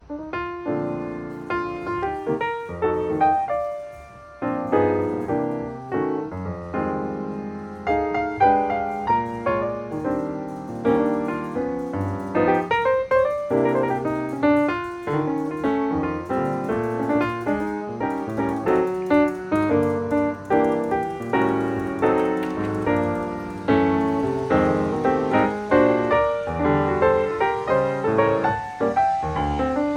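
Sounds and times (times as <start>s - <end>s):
solo piano music: 0.0s - 29.9s.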